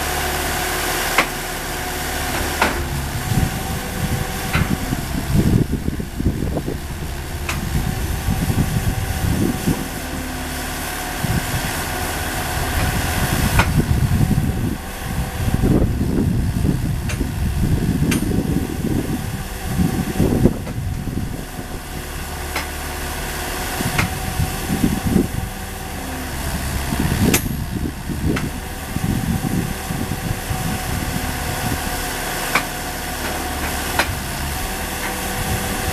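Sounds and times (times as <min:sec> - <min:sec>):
engine running with low rumble: 0:00.0 - 0:35.9.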